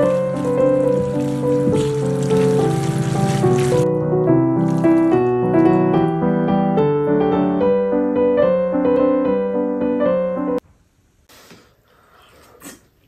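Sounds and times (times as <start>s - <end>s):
piano music: 0.0s - 10.6s.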